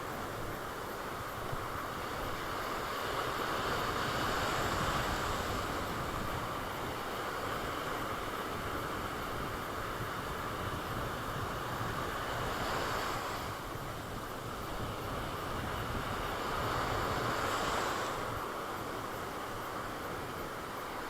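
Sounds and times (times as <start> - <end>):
surf washing on shore: 0.0 - 21.0.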